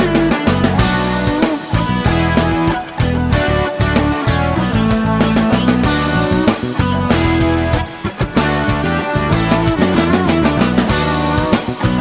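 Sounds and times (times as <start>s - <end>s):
rock music with guitar: 0.0s - 12.0s.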